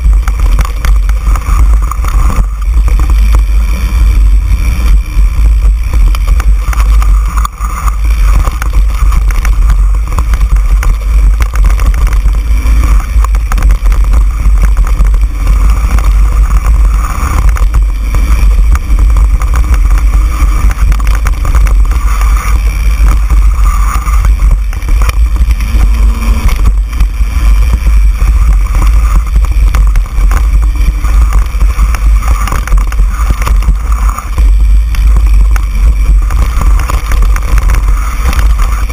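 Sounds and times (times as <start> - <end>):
bike rattling on dirt trail: 0.0 - 38.9
wind buffeting microphone: 0.0 - 38.9.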